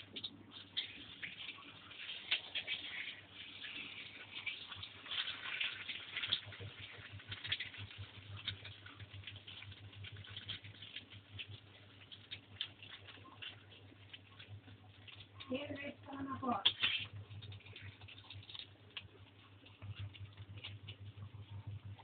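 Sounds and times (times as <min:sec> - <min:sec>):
low steady hum: 0:00.0 - 0:22.0
omelette crackling in hot oil: 0:00.0 - 0:22.0.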